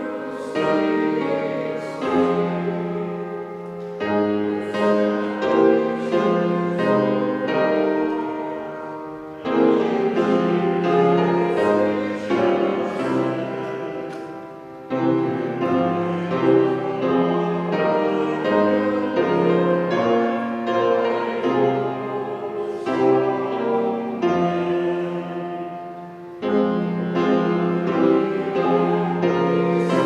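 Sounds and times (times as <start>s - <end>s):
piano playing slow chords: 0.0s - 30.0s.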